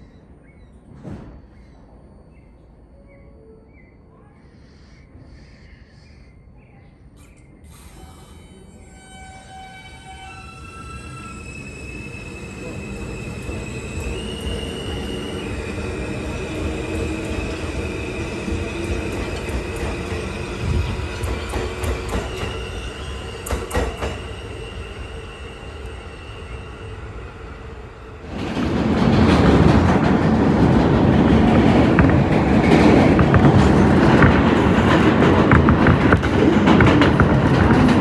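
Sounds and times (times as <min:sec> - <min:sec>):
subway train on rails: 0:00.0 - 0:38.0.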